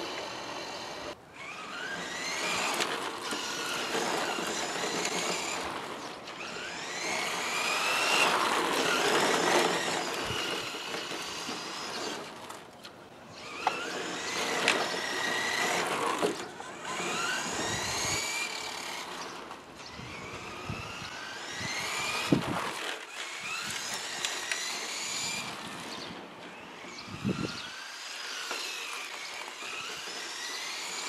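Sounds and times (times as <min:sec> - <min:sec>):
electric motor whine: 0:00.0 - 0:12.7, 0:13.3 - 0:31.0
tyre noise on asphalt: 0:00.0 - 0:31.0.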